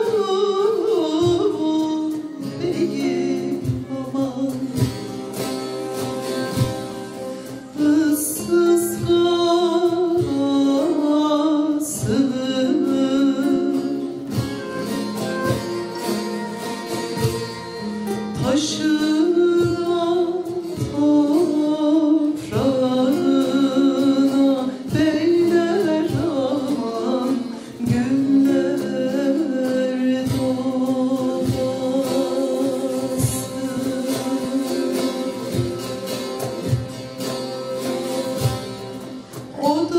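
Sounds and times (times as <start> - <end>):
strummed and plucked lutes: 0.0 - 39.9.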